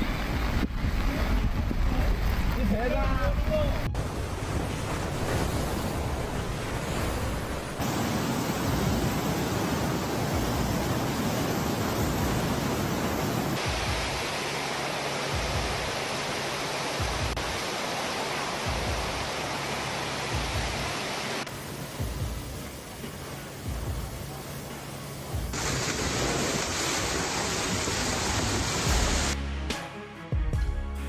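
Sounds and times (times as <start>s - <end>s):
floodwater rushing: 0.0s - 29.4s.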